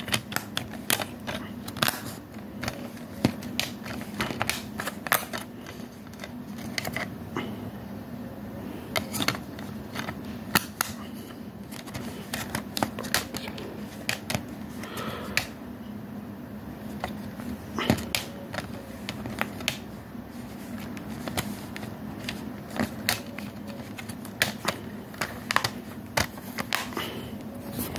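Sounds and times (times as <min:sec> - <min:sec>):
plastic dvd case clicking and clattering: 0:00.0 - 0:07.1, 0:08.9 - 0:15.6, 0:16.9 - 0:27.0.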